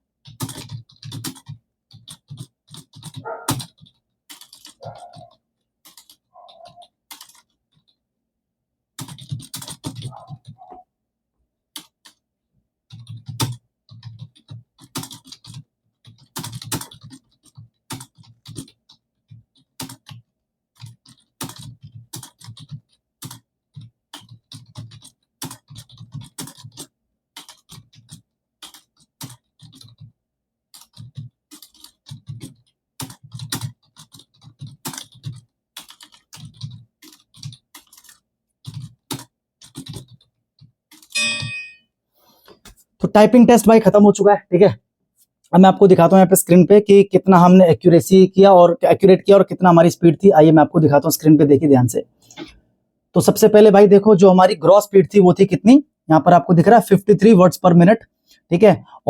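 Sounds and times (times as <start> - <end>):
fast keyboard typing: 0.2 - 8.0, 9.0 - 10.8, 11.7 - 12.2, 12.9 - 41.8, 45.6 - 52.0, 53.2 - 59.0.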